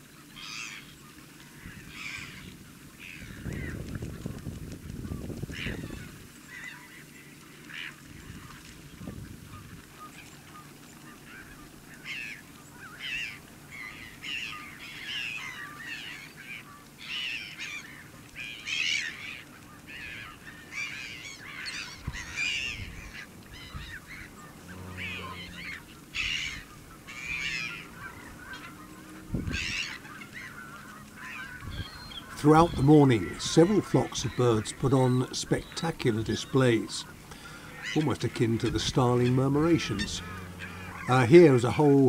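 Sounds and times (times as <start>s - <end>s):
waterfowl calling: 0.1s - 3.8s, 4.9s - 42.0s.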